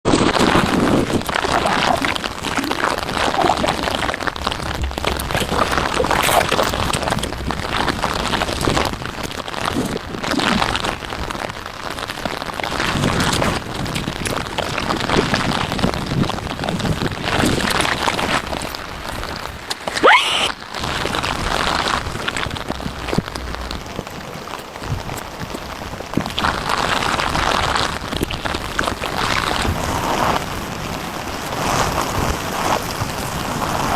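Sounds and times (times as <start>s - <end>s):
heavy rain falling: 0.1s - 33.9s
raindrops hitting a surface: 0.1s - 33.9s.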